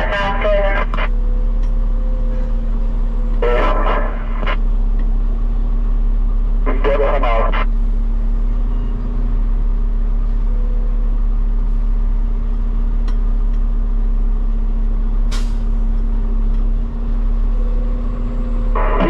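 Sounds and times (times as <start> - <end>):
truck diesel engine idling: 0.0 - 19.0.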